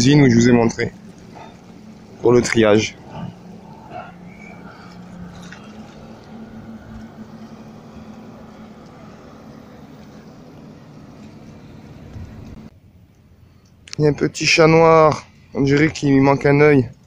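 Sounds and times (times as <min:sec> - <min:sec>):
motorboat engine hum: 0:00.0 - 0:17.0.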